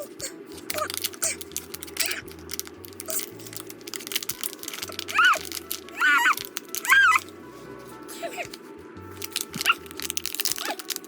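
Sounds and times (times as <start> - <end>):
packaging tearing and crinkling: 0.6 - 7.4, 8.2 - 11.0.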